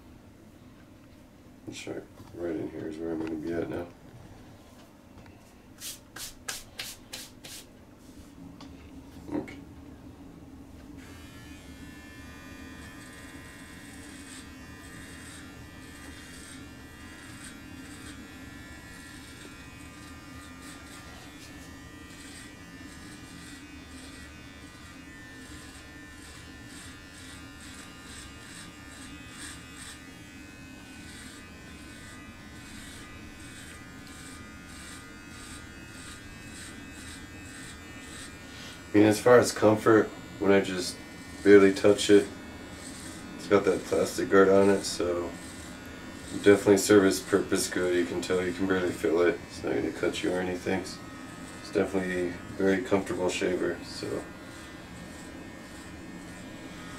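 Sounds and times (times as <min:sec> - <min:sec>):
body trimmer buzzing: 0:11.0 - 0:56.9.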